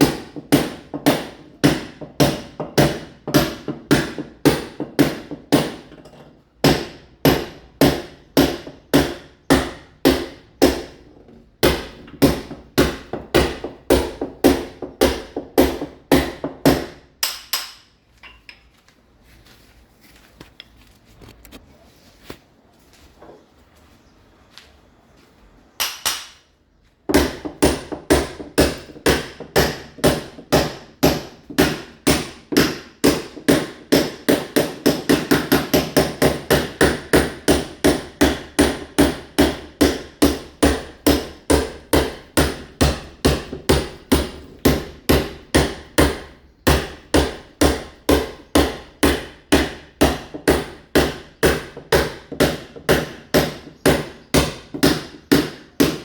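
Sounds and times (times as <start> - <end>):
hammer chipping masonry wall: 0.0 - 17.9, 27.0 - 56.0.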